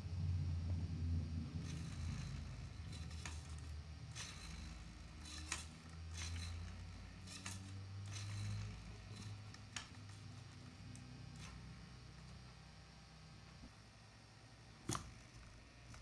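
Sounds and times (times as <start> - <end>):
electric motor humming: 0.0 - 13.7.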